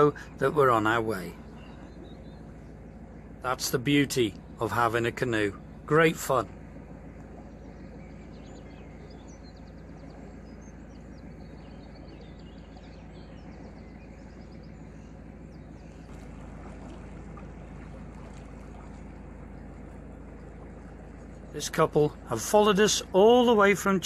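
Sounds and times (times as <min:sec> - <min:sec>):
birds chirping: 0:00.0 - 0:24.0
boat engine humming: 0:00.0 - 0:24.0.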